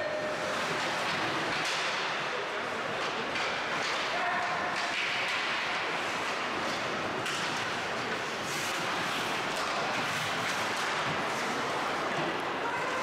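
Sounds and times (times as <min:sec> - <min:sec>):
steady arena noise: 0:00.0 - 0:13.0.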